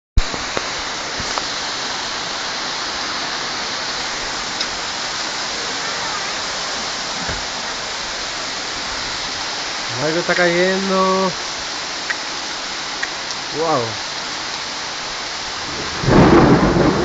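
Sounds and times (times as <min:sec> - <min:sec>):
torrential rain pouring: 0:00.2 - 0:17.0.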